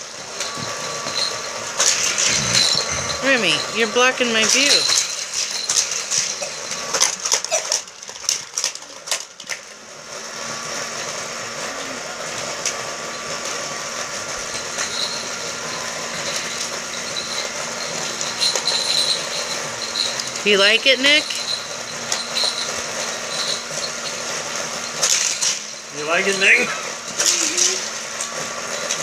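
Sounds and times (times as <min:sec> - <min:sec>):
toy car track motor whirring: 0:00.0 - 0:09.7, 0:14.3 - 0:29.0.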